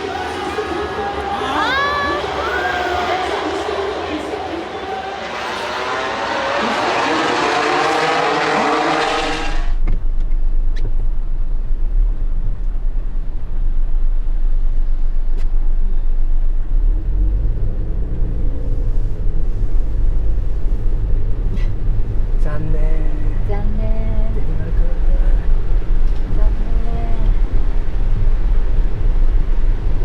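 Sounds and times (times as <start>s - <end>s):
car cabin road and engine rumble: 0.0s - 30.0s.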